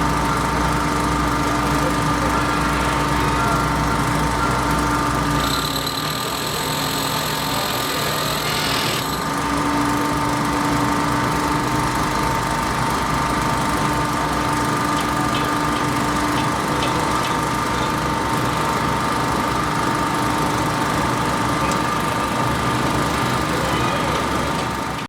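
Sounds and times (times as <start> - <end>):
construction machinery engine running: 0.0 - 25.0.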